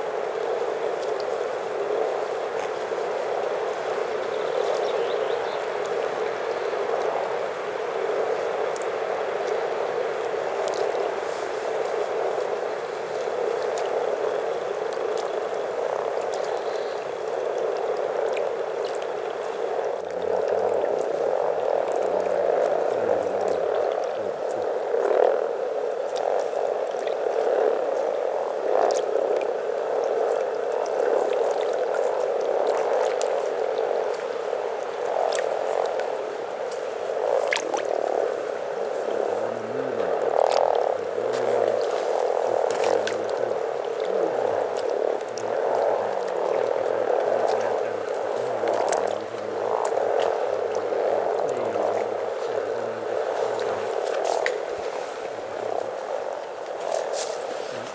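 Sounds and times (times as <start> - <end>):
chorus of frogs croaking: 0.0 - 57.9.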